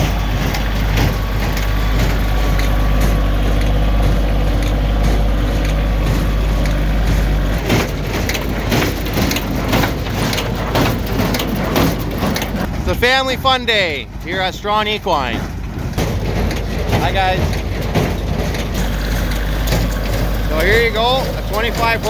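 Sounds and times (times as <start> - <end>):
tractor engine drone: 0.0 - 22.0.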